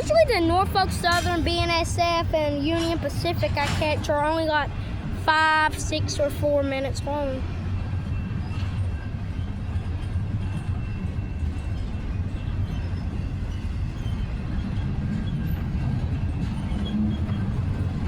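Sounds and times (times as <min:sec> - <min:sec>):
freight train rumbling past: 0:00.0 - 0:18.0
high ringing from train wheels: 0:00.0 - 0:18.0.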